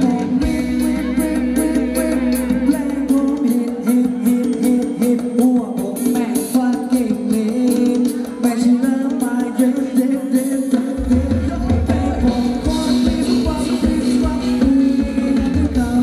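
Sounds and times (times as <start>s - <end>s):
live band dance music: 0.0s - 16.0s
person singing: 0.0s - 16.0s.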